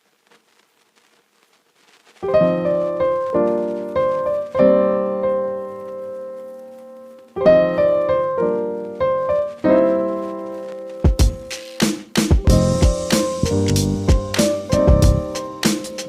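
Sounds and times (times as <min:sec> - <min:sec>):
slow piano chords: 0:02.2 - 0:11.6, 0:12.4 - 0:16.0.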